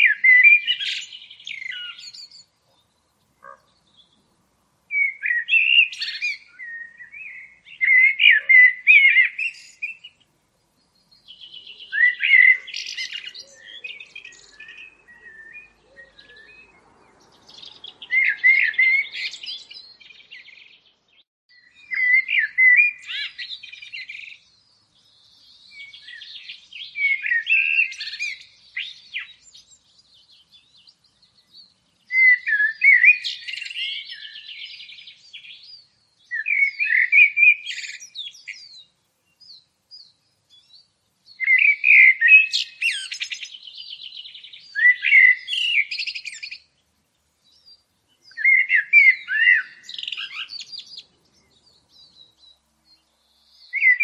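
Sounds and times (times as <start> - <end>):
faint bird twittering: 0.0 - 54.0
songbird singing: 0.0 - 54.0.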